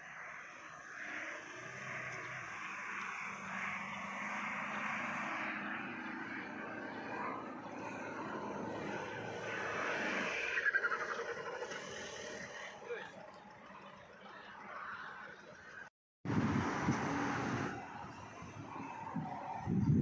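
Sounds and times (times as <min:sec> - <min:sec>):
car engine at high revs: 0:00.0 - 0:14.5, 0:16.3 - 0:20.0.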